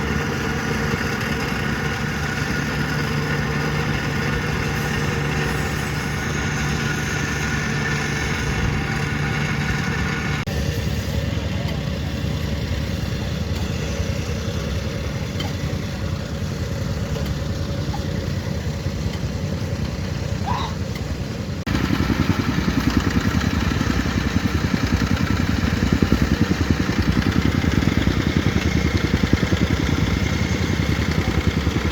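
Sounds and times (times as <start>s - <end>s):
engine running: 0.0s - 31.9s
rough engine pulsing throb: 0.0s - 31.9s.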